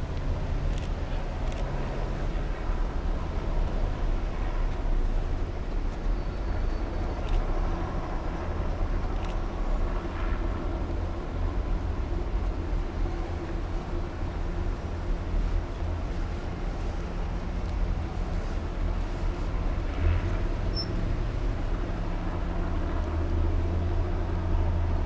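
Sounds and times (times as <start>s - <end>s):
cars driving slowly past: 0.0s - 25.0s.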